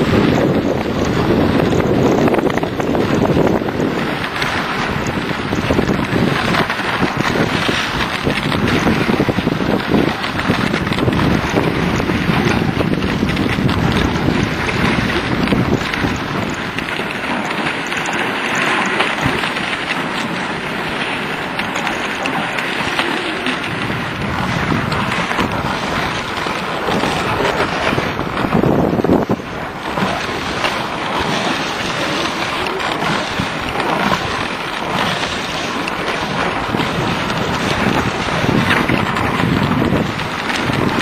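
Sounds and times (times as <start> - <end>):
sled runners scraping on snow: 0.0 - 41.0
wind rumbling on microphone: 0.0 - 41.0.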